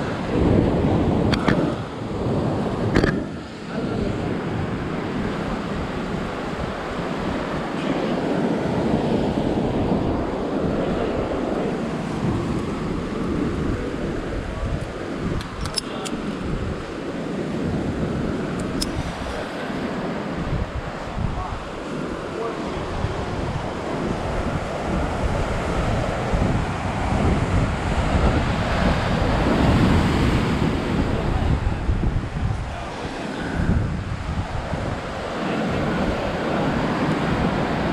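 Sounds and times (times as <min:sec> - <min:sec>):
surf breaking on rocky shore: 0:00.0 - 0:37.9
wind gusting across microphone: 0:00.0 - 0:37.9.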